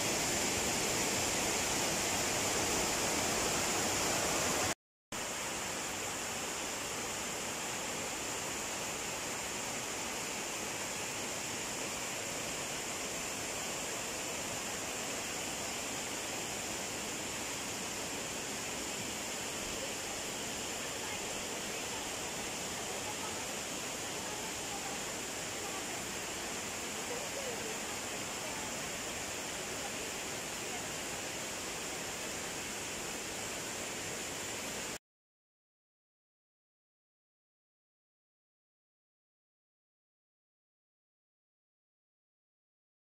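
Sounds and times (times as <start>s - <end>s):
steady high hiss: 0.0s - 35.0s
water flowing: 0.0s - 35.0s.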